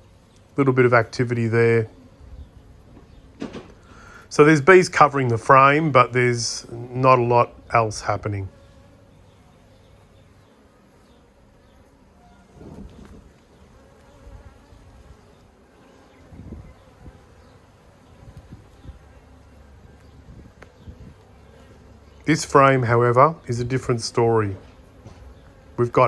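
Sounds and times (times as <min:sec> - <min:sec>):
honeybees humming: 0:00.0 - 0:26.0.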